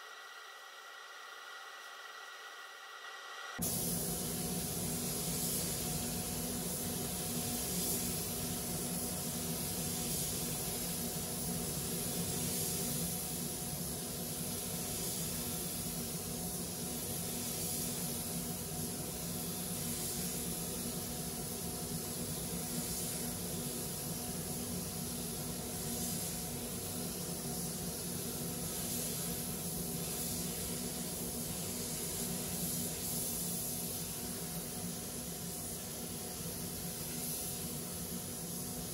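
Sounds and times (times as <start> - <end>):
air system hum: 0.0 - 38.9
spray gun hissing: 3.6 - 38.9.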